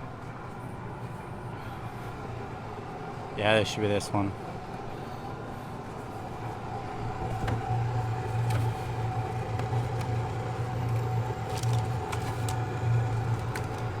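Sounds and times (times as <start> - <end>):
hvac equipment humming: 0.0 - 14.0.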